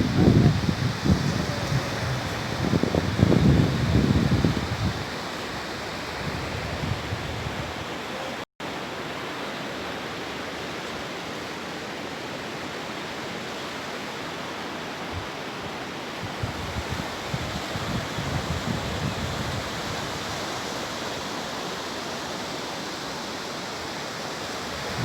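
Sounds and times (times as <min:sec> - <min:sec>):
sea surf on a beach: 0:00.0 - 0:25.0.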